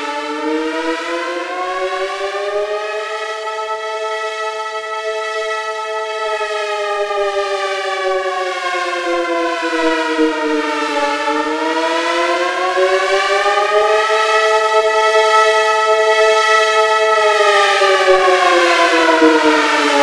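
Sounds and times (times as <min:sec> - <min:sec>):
dual-tone siren: 0:00.0 - 0:20.0.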